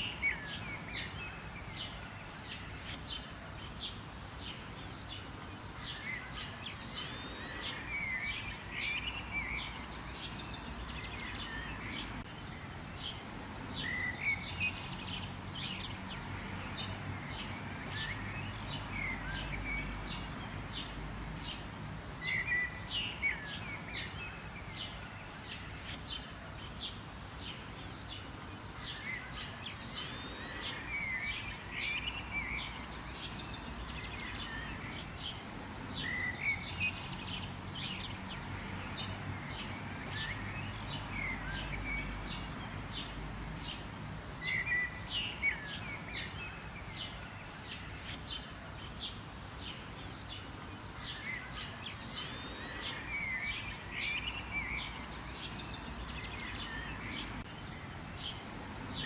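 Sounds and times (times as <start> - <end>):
low steady background noise: 0.0 - 59.0
small birds chirping: 0.0 - 59.0.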